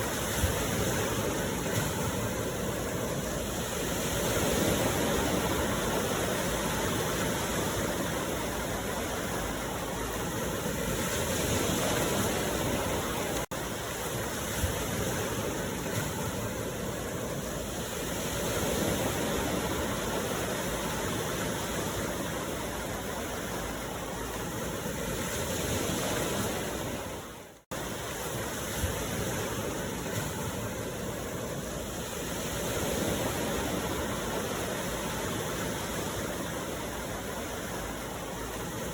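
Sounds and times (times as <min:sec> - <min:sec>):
ocean waves on shore: 0:00.0 - 0:38.9.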